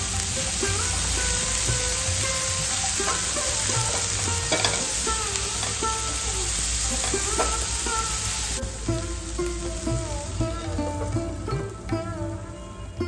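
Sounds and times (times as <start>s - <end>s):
chickpeas sizzling in oil: 0.0s - 11.5s.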